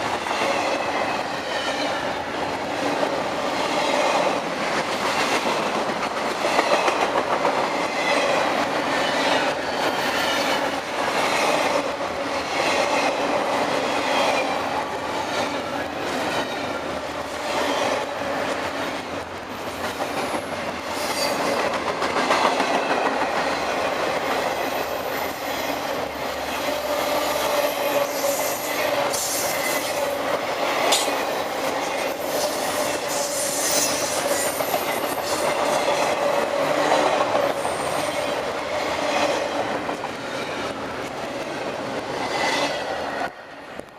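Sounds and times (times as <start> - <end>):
train wheels rumbling and clattering: 0.0 - 43.9.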